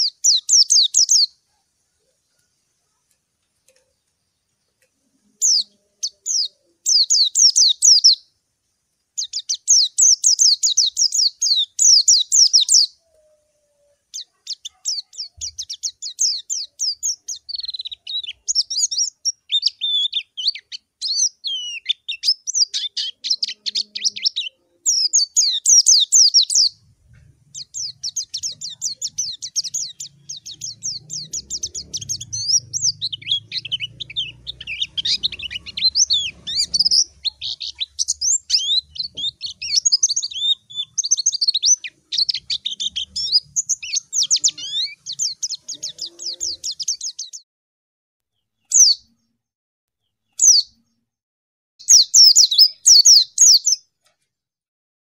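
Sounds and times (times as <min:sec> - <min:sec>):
bird chirping and trilling: 0:00.0 - 0:01.4, 0:05.3 - 0:08.2, 0:09.2 - 0:47.4, 0:48.6 - 0:49.2, 0:50.2 - 0:51.0, 0:51.8 - 0:53.8.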